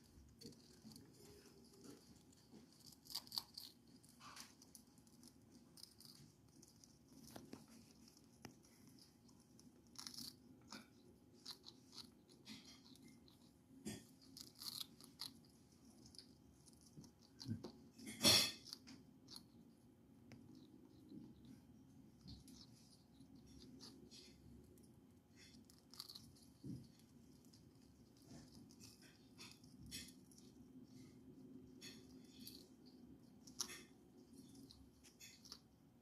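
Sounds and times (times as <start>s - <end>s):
parrot crunching a french fry: 0.0s - 19.7s, 20.3s - 35.8s.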